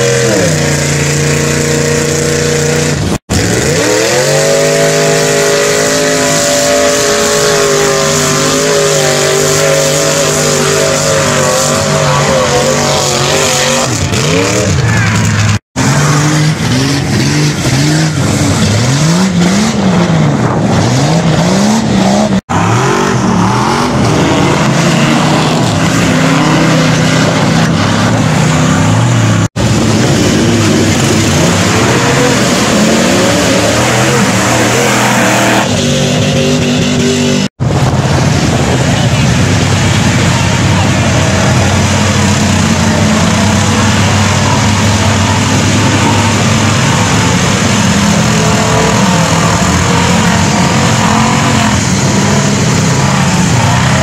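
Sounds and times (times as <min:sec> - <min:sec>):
off-road truck engines revving: 0:00.0 - 0:54.0
tyres churning mud: 0:00.0 - 0:54.0.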